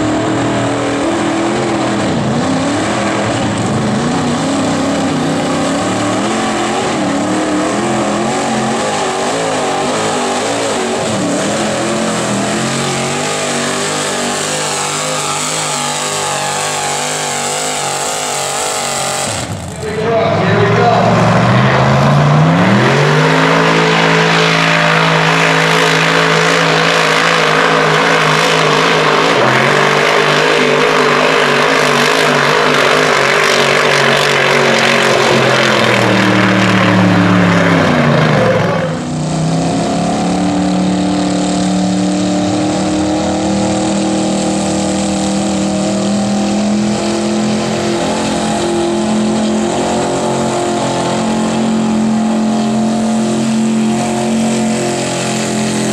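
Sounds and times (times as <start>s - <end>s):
truck engine at full throttle: 0.0s - 55.9s
truck engine running steadily: 0.0s - 55.9s.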